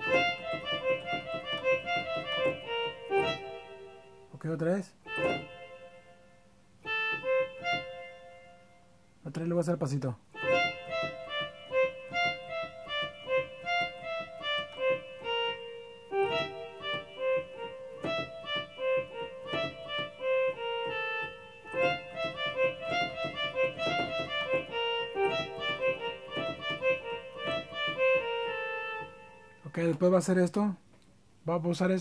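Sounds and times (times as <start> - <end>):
electronic keyboard melody: 0.0 - 30.6.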